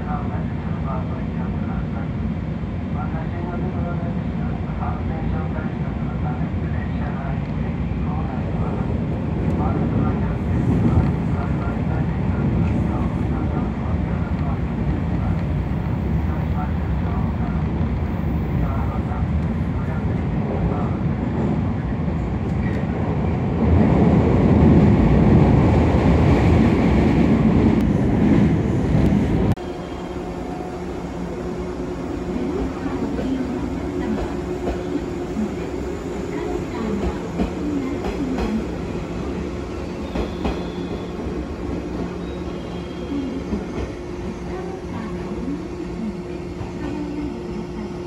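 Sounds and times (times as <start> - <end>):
train wheels rumbling on rail: 8.4 - 48.0.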